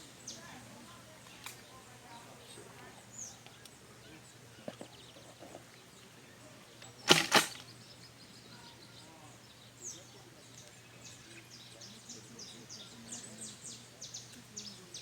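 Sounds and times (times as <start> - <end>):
birds chirping: 1.3 - 15.0.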